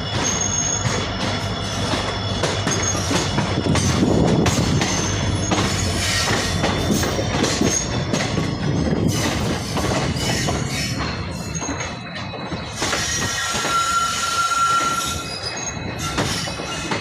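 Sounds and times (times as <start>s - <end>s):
high wheel squeals: 0.0s - 8.1s, 8.8s - 17.0s
train rumbling on track: 0.0s - 17.0s
wheels clacking over rails: 0.0s - 17.0s.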